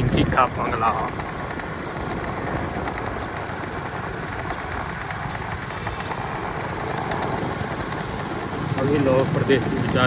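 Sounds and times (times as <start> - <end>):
vehicle road noise: 0.0 - 10.0.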